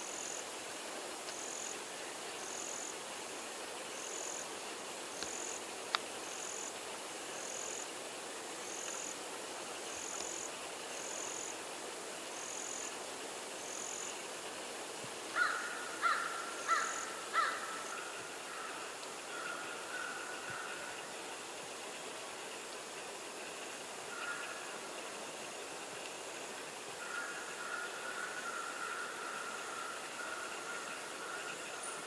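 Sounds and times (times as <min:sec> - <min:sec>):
insect chirping: 0:00.0 - 0:32.0
steady outdoor hiss: 0:00.0 - 0:32.0.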